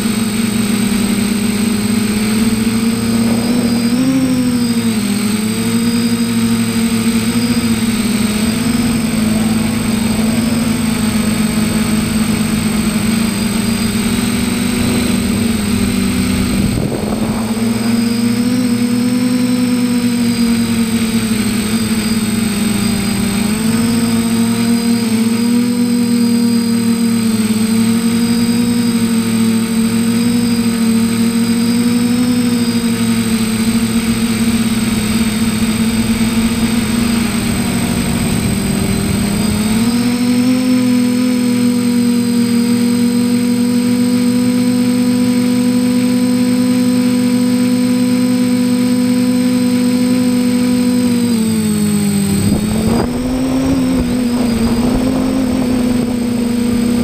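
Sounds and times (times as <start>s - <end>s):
drone propellers whirring: 0.0s - 57.0s.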